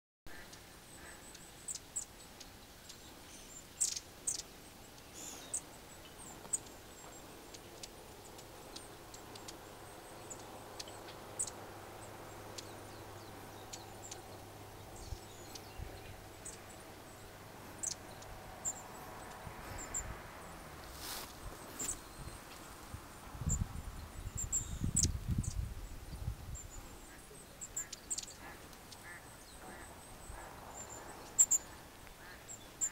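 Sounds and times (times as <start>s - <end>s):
faint steady hum: 0.3s - 32.9s.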